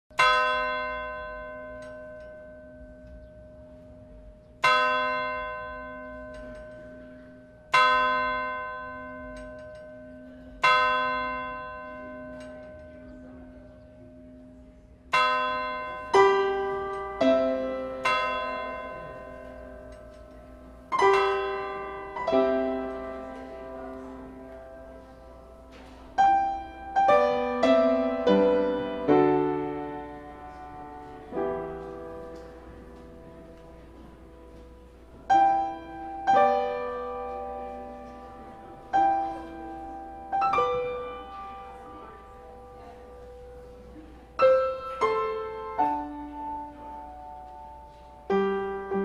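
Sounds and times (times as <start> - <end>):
digital piano chords: 0.1 - 49.0.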